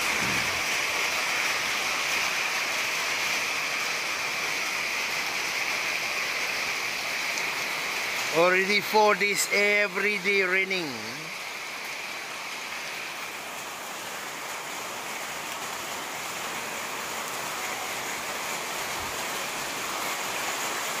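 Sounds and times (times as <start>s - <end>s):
rain falling on wet road: 0.0s - 21.0s.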